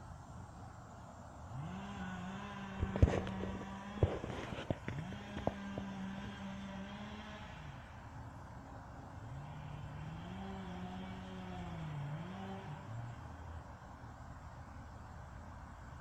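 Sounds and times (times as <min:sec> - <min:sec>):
engine speeding up and slowing down: 0:01.2 - 0:14.2.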